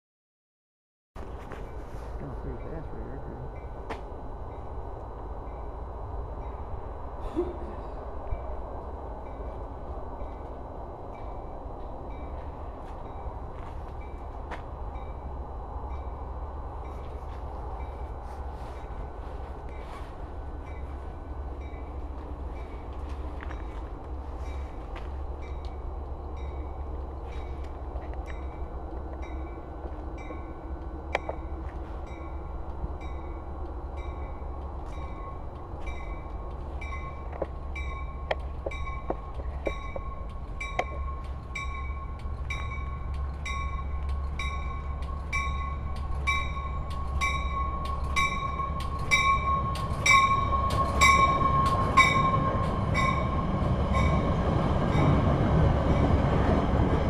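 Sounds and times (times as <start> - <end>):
rumble of train cars: 1.2 - 57.0
train whine: 1.2 - 57.0
train bell ringing: 1.5 - 7.1, 7.8 - 56.9.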